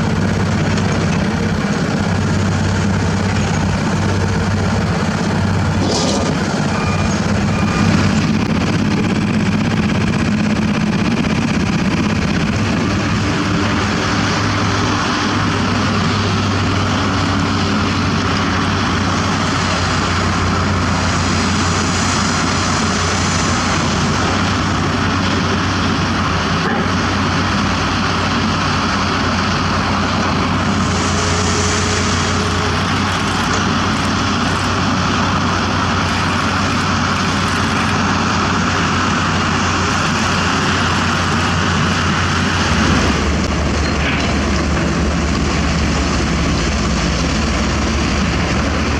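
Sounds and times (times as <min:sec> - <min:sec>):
heavy diesel machinery droning: 0:00.0 - 0:48.9.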